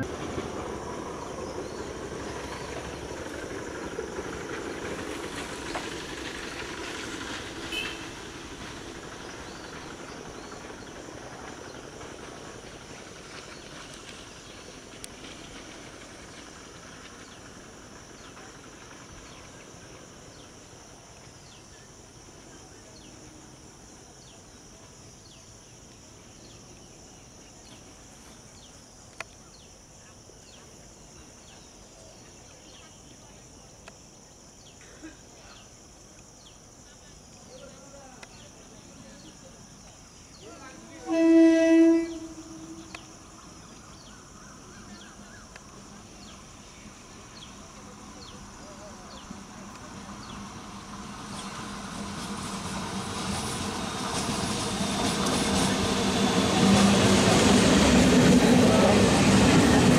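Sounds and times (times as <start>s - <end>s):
train running on rails: 0.0s - 35.7s, 36.3s - 59.9s.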